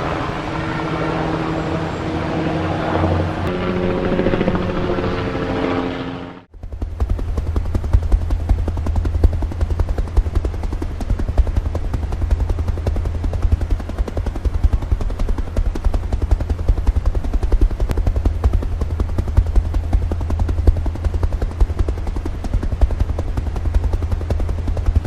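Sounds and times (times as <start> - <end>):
helicopter rotor chopping: 0.0 - 25.0.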